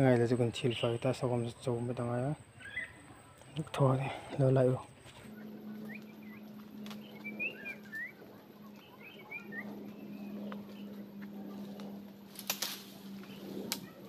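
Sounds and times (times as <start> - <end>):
faint low hum: 0.0 - 14.0
small birds chirping: 0.0 - 14.0.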